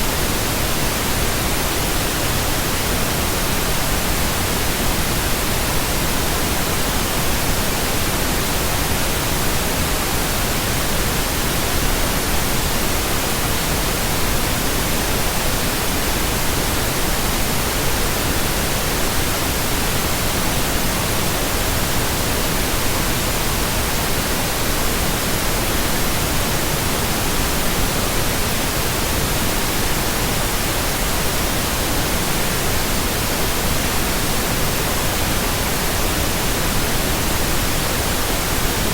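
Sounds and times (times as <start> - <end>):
synthesised pink noise hiss: 0.0 - 38.9.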